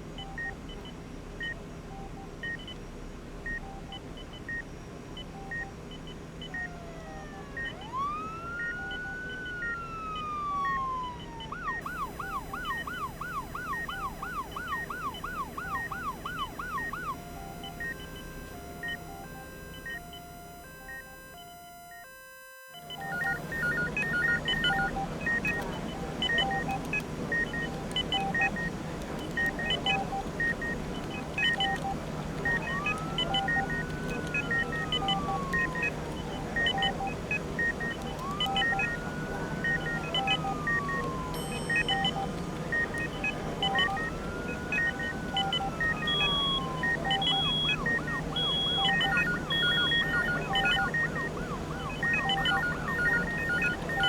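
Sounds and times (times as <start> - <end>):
emergency vehicle siren: 5.3 - 54.0
medical equipment beeping: 6.4 - 22.1, 22.8 - 54.0.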